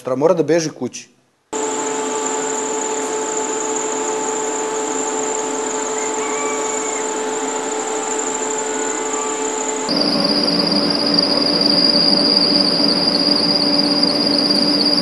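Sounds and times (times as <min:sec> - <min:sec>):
mechanical drone: 0:01.6 - 0:15.0
thin high whine: 0:01.6 - 0:15.0.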